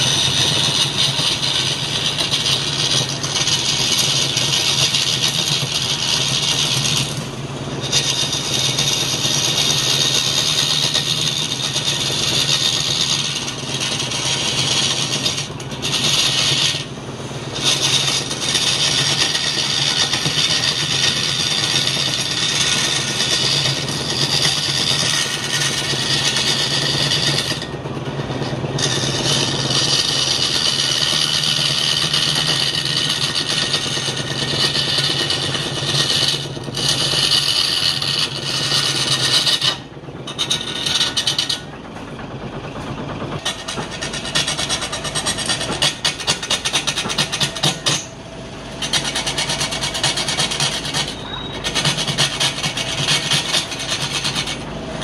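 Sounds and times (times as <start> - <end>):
gouge scraping spinning wood: 0.0 - 55.0
lathe motor hum: 0.0 - 55.0.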